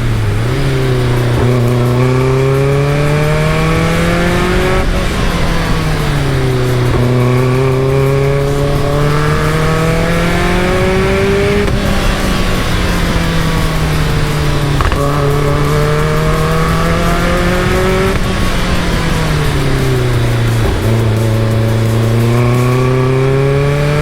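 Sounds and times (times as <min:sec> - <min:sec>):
car engine revving through gears: 0:00.0 - 0:24.0.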